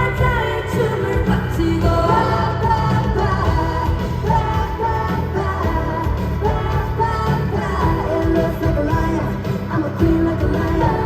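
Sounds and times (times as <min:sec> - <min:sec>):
loud pop music over speakers: 0:00.0 - 0:11.0.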